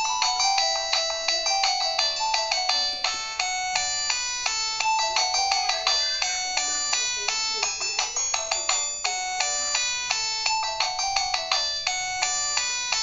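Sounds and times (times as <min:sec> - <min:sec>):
midi ringtone from phone speaker: 0:00.0 - 0:13.0.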